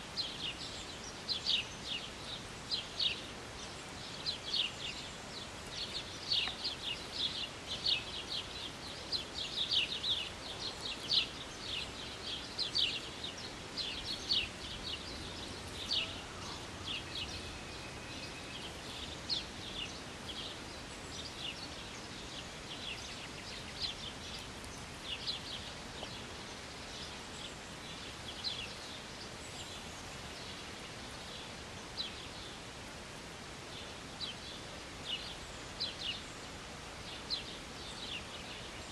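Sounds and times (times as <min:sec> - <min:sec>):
faint steady hiss: 0:00.0 - 0:38.9
small birds chirping: 0:00.0 - 0:38.9.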